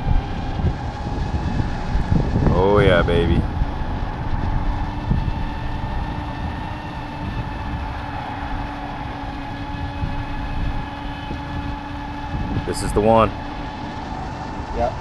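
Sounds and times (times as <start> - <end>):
faint hum: 0.0 - 15.0
wind buffeting microphone: 0.0 - 15.0.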